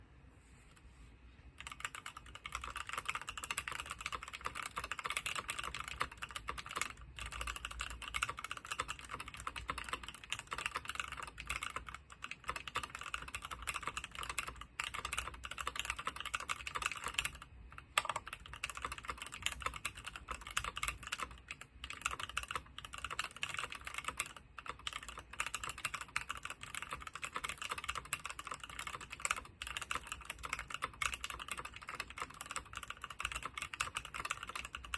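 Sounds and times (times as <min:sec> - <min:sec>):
fast mechanical keyboard typing: 0:01.6 - 0:34.9.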